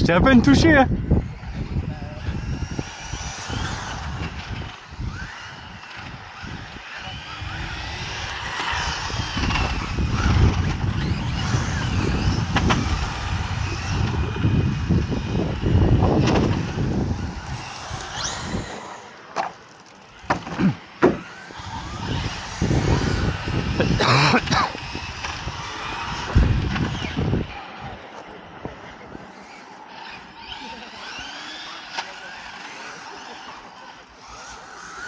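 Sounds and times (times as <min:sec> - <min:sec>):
tyres rumbling on asphalt: 0:00.0 - 0:35.0
electric motor whining: 0:00.3 - 0:35.0.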